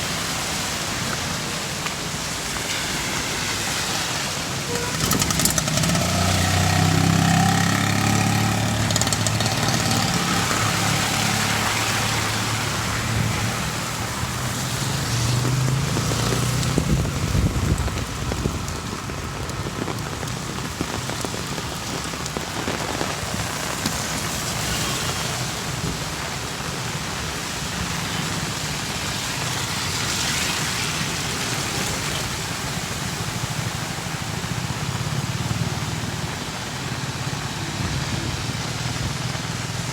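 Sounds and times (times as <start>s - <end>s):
steady rain falling: 0.0s - 39.9s
vehicle engines passing: 0.0s - 39.9s.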